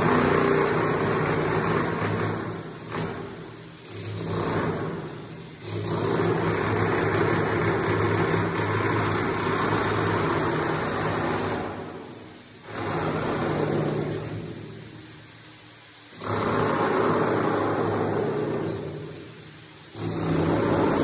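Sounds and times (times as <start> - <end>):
demolition hammer chiselling brick: 0.0 - 12.0, 12.6 - 14.8, 16.1 - 19.2, 19.9 - 21.0.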